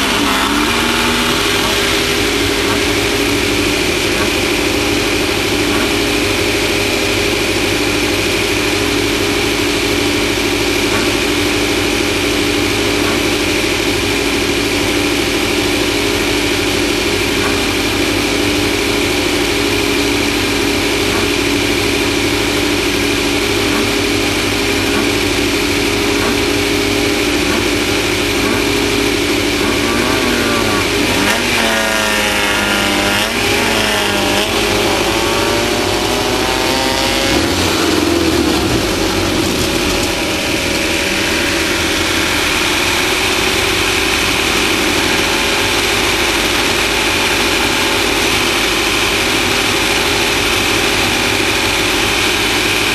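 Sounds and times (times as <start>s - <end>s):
road and wind noise: 0.0s - 52.9s
vehicle engine running: 0.0s - 52.9s.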